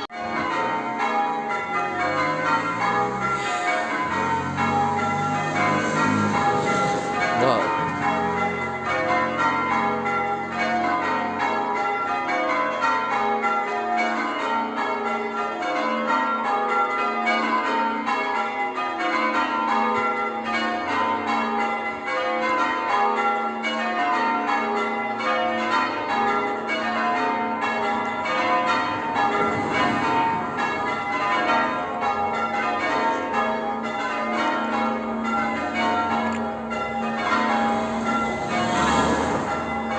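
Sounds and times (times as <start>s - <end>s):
church bells change-ringing: 0.0s - 39.9s.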